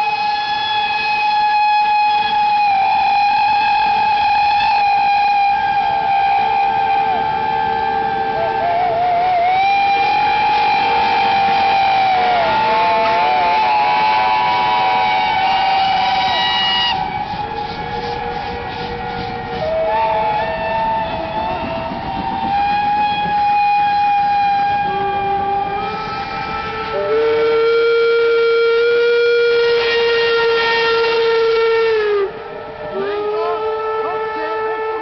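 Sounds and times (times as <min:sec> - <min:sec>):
locomotive whistles: 0:00.0 - 0:35.0.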